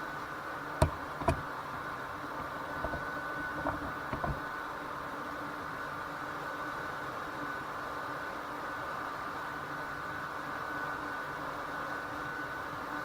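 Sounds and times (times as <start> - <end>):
mechanical hum with high tone: 0.0 - 13.0.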